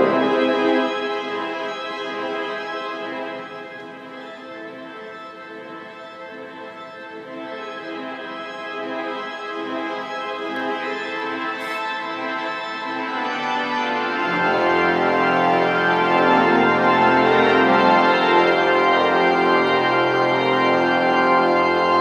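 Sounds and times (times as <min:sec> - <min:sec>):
pipe organ playing chords: 0:00.0 - 0:22.0.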